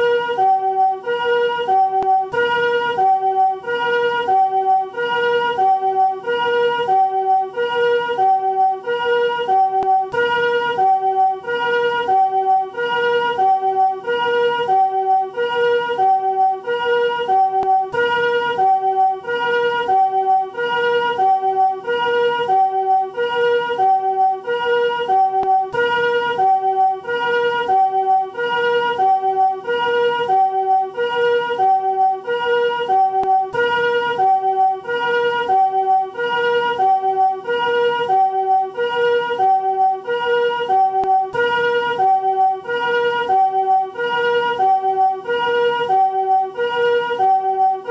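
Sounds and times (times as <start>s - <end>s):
two-tone ambulance siren: 0.0s - 47.9s.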